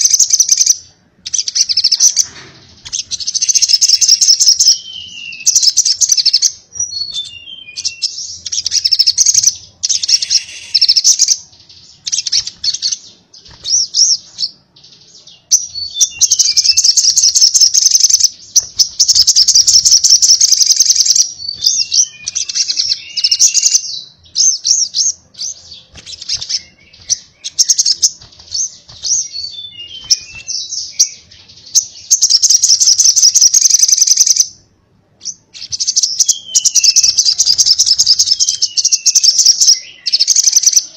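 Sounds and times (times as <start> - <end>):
sunbird singing rattling song: 0.0 - 34.6, 35.2 - 40.9.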